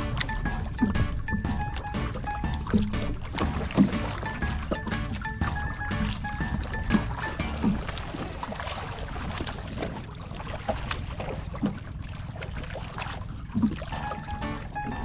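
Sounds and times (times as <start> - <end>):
low rumble of water: 0.0 - 15.0.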